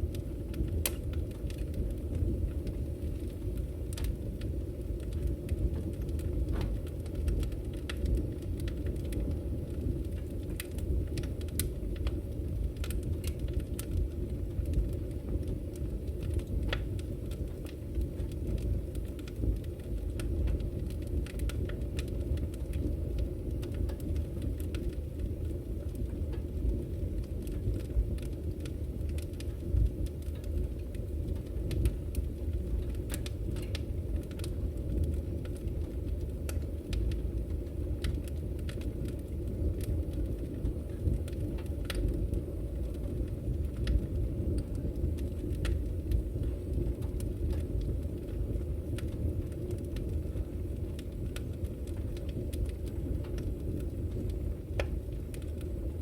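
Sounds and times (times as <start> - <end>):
fire rumbling: 0.0 - 56.0
wood fire crackling and popping: 0.0 - 56.0.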